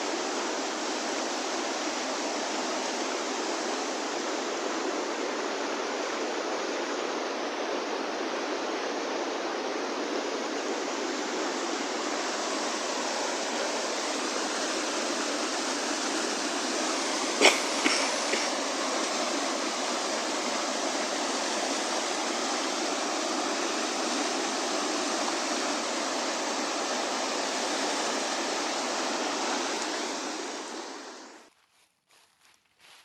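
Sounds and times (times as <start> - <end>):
river rapids rushing: 0.0 - 31.4.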